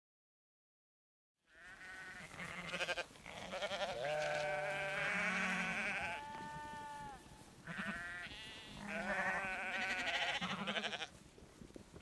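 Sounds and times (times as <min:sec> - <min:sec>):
sheep bleating: 0:01.5 - 0:11.1.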